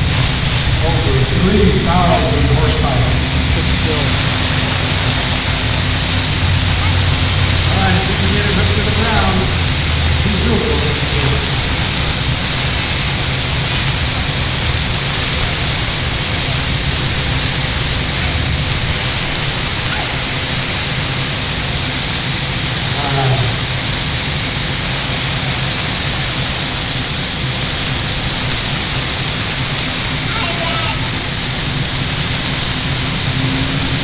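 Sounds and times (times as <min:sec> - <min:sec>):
high turbine whine: 0:00.0 - 0:34.0
turbine engine roar: 0:00.0 - 0:34.0.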